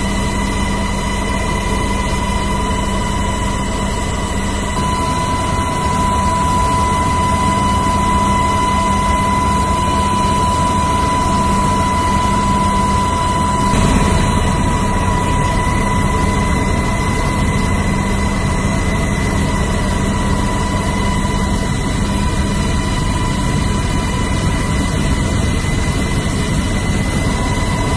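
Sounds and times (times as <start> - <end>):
aircraft engine and cabin noise: 0.0 - 27.9
constant high whine: 0.0 - 27.9.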